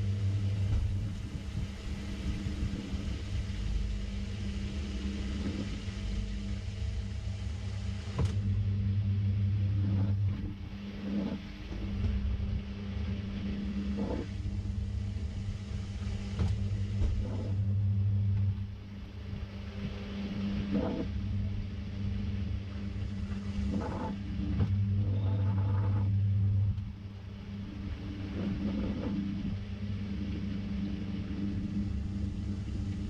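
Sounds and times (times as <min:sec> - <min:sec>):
washing machine motor hum: 0:00.0 - 0:33.0.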